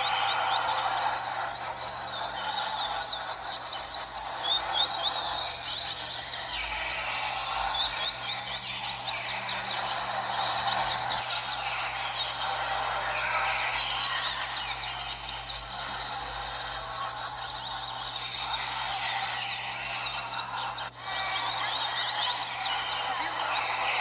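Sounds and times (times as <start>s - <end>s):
chorus of birds chirping: 0.0s - 24.0s.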